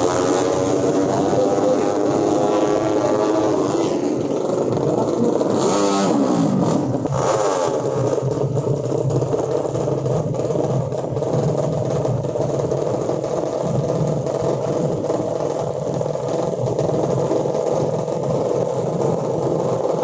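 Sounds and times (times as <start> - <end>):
motorcycle engines revving: 0.0 - 20.0
steady engine drone: 0.0 - 20.0.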